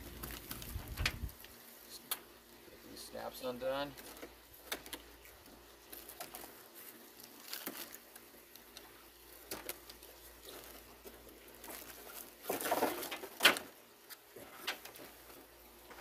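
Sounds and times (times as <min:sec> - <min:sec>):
packaging rustling: 0:00.0 - 0:01.8, 0:03.6 - 0:16.0
shears snipping plastic: 0:00.0 - 0:02.3, 0:03.4 - 0:16.0.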